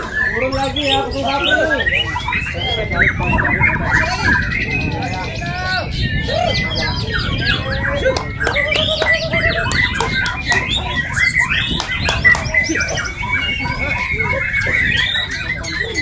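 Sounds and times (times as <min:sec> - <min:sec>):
songbirds singing in chorus: 0:00.0 - 0:16.0.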